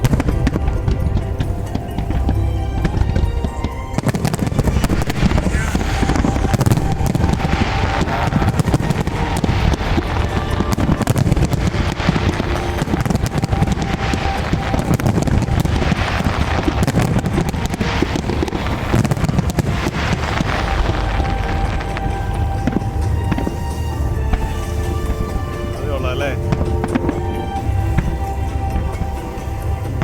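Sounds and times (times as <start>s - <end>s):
fireworks crackling and popping: 0.0s - 30.0s
music: 0.0s - 30.0s.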